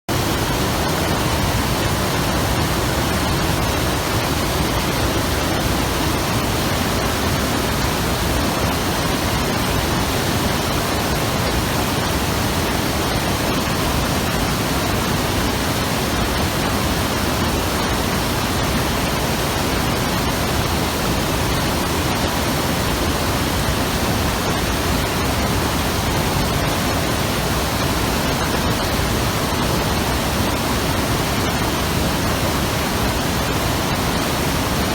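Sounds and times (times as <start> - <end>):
river rushing over rocks: 0.1 - 34.9.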